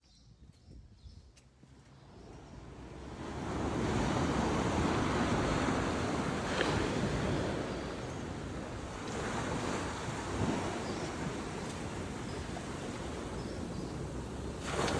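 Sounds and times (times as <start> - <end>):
wind on microphone: 0.0 - 14.9
waves washing onto beach: 2.2 - 14.9.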